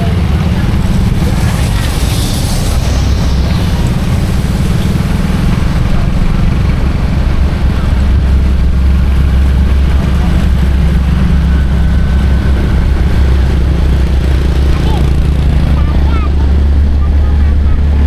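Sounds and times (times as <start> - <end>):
engine running with low rumble: 0.0 - 18.0.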